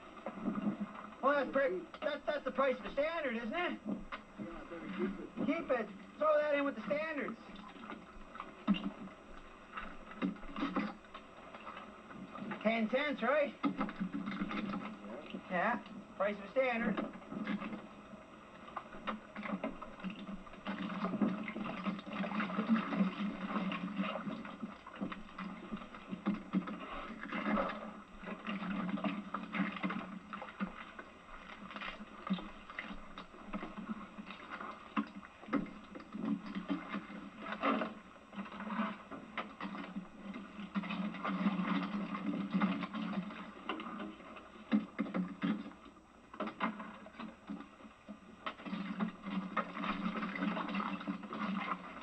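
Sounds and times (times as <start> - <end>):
low water wash: 0.0 - 52.0.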